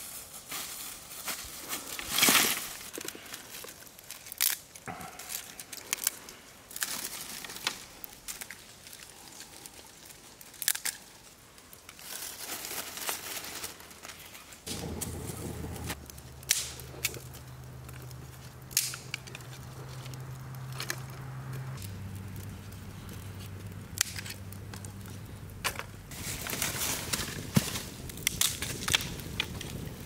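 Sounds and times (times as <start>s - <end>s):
twig fire crackling and popping: 0.4s - 30.0s.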